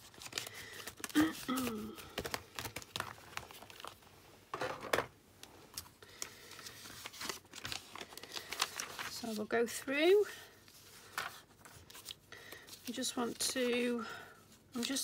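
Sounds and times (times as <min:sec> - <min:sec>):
paper and plastic packaging rustling: 0:00.0 - 0:15.0.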